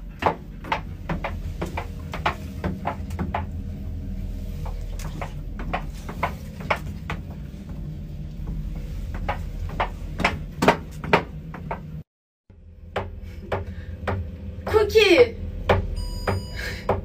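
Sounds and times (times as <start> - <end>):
lift low hum: 0.0 - 17.0.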